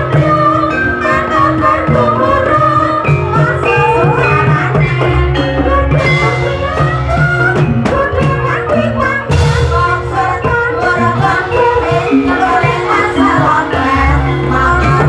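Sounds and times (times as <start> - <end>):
gamelan music over loudspeakers: 0.0 - 15.0.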